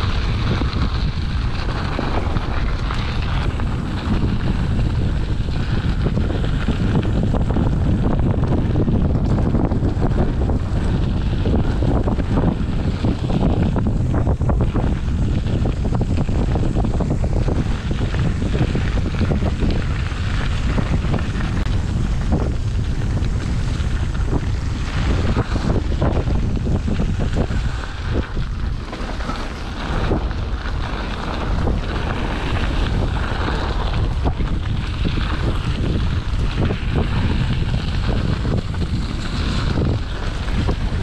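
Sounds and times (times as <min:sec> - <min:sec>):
bike tyre noise: 0:00.0 - 0:41.0
wind noise on microphone: 0:00.0 - 0:41.0.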